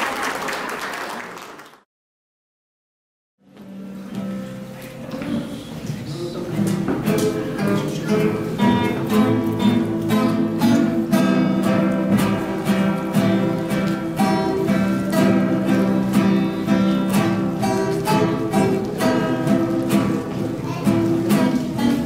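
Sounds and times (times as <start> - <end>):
acoustic guitars strumming chords: 3.4 - 22.0.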